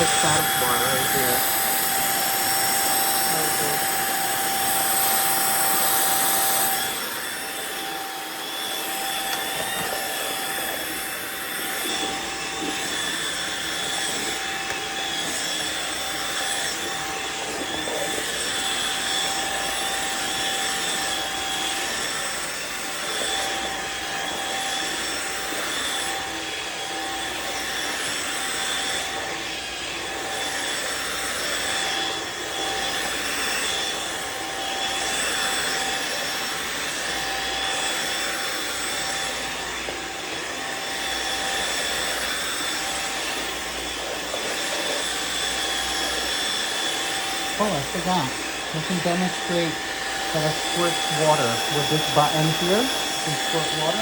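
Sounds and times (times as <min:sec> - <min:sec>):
floor washer running: 0:00.0 - 0:54.0.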